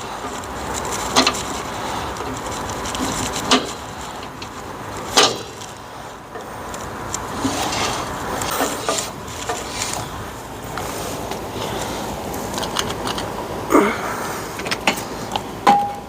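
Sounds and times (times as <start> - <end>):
tools rubbing and scraping: 0.0 - 13.4.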